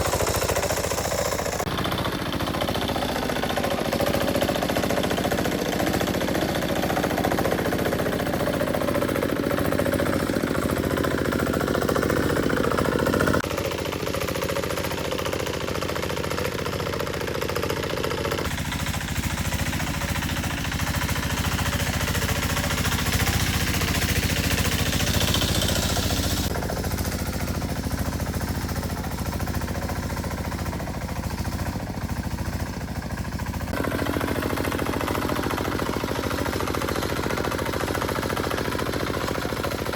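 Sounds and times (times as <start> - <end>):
engine knocking: 0.0 - 39.9.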